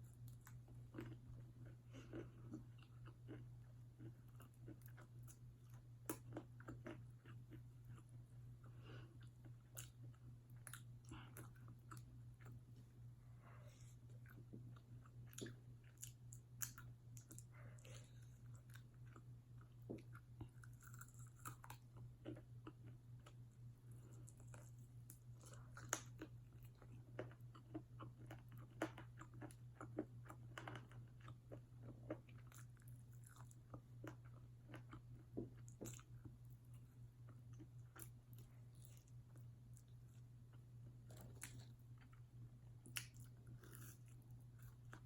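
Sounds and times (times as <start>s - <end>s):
chewing crunchy food: 0.0s - 45.0s
steady low hum: 0.0s - 45.0s.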